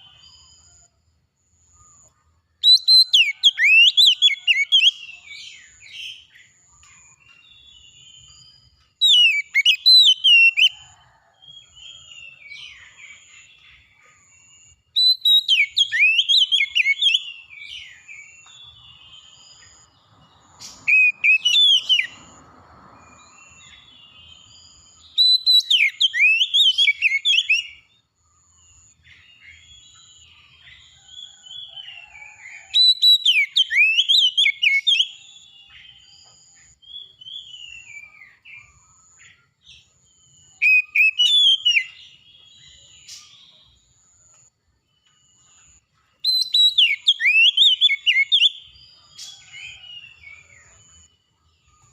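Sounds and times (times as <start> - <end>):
songbird whistles and trills: 1.7 - 10.9, 11.6 - 19.9, 20.5 - 22.3, 23.2 - 27.9, 29.1 - 39.5, 40.2 - 44.0, 45.4 - 51.1.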